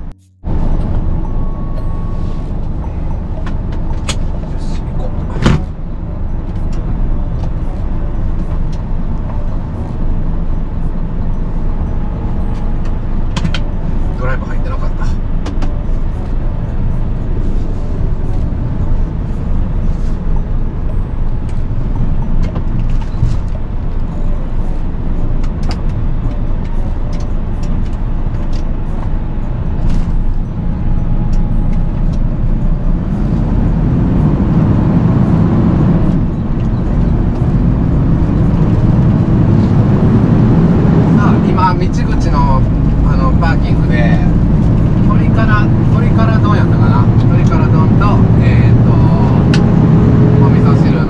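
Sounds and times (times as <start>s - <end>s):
truck engine and road rumble: 0.0s - 51.0s.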